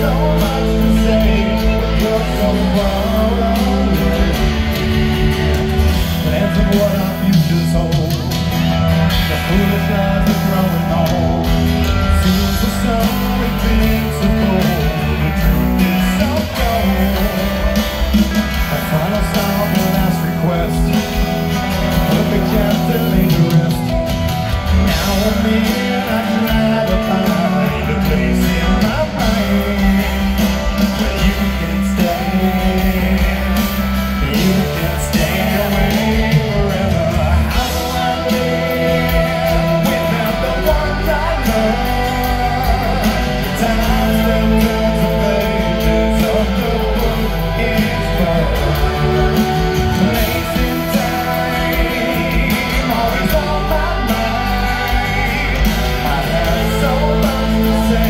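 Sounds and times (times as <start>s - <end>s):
live rock band playing: 0.0s - 58.0s
person singing: 0.0s - 58.0s.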